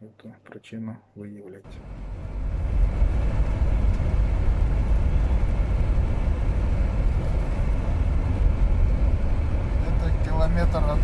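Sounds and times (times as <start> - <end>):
engine and road rumble in car: 1.7 - 11.0.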